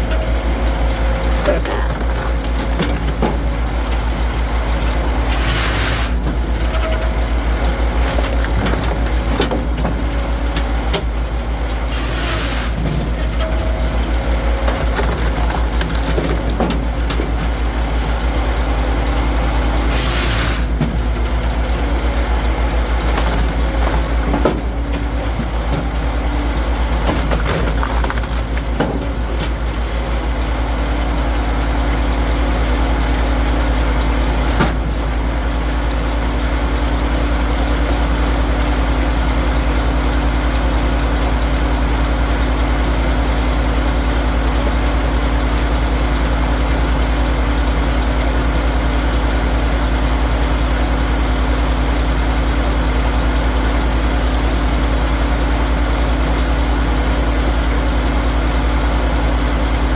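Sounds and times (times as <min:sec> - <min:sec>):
machinery engine running: 0:00.0 - 0:59.9.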